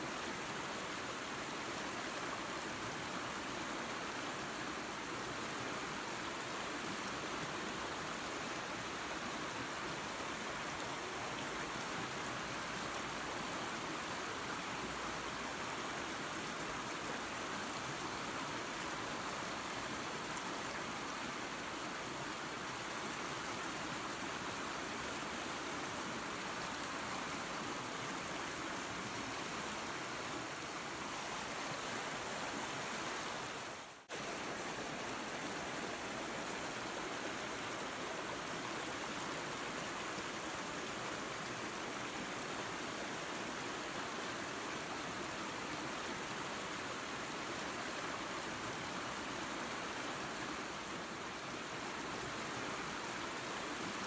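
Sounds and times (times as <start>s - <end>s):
waterfall and creek rushing: 0.0s - 54.0s.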